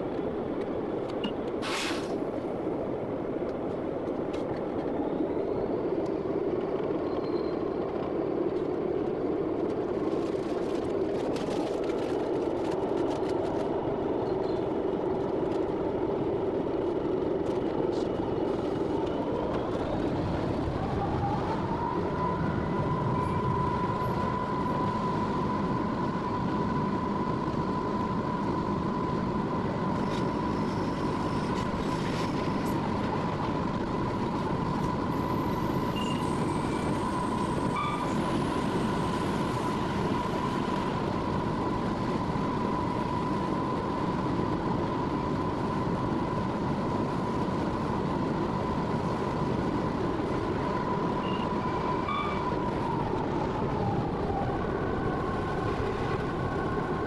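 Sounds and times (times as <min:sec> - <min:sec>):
diesel locomotive engine whine: 0:00.0 - 0:57.0.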